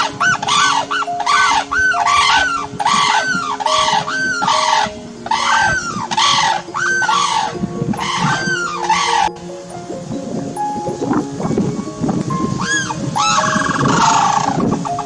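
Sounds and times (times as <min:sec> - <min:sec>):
cranes trumpeting calls: 0:00.0 - 0:09.9, 0:12.4 - 0:15.0.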